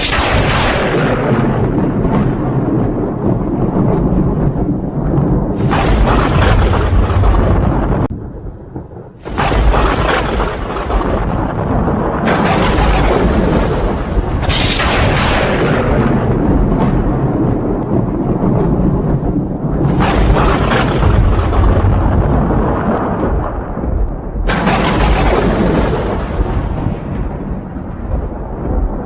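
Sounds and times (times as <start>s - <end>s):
thunder crash: 0.0s - 29.0s
thunder rumbling: 0.0s - 29.0s.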